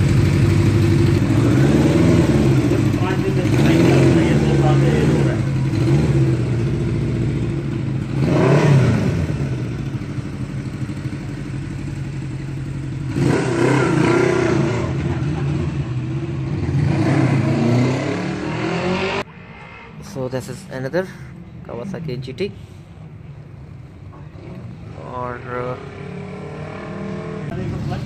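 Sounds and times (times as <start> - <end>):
motorcycle engine revving: 0.0 - 20.1, 24.1 - 28.0.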